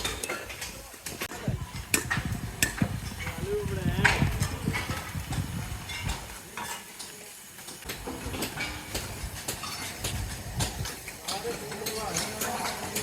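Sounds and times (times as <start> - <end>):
hard objects clattering and scraping: 0.0 - 13.0.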